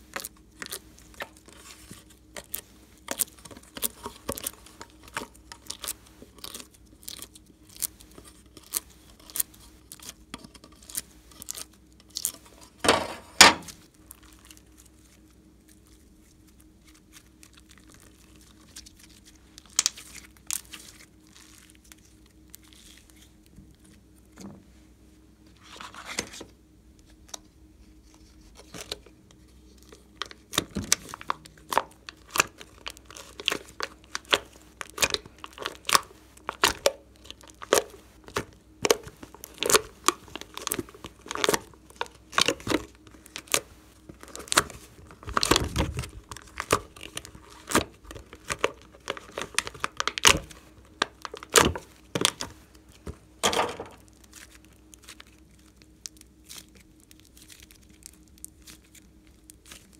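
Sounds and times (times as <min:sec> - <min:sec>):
plastic packaging crinkling: 0:00.0 - 0:24.3, 0:28.0 - 0:59.9.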